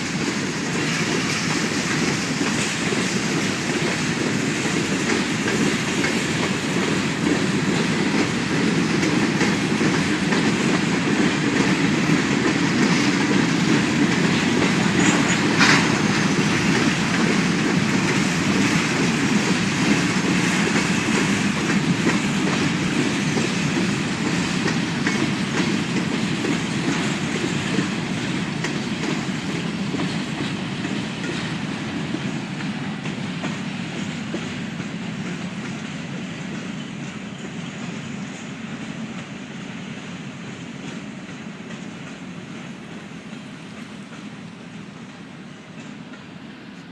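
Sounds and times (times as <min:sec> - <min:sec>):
freight train rolling past: 0:00.0 - 0:46.9
wheels clicking over rail joints: 0:00.1 - 0:38.0.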